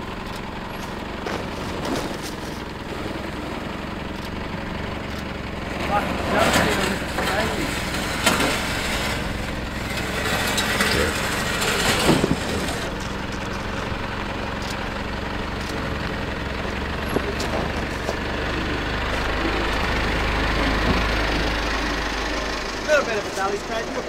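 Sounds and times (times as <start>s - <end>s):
vehicle engine running low: 0.0s - 24.0s.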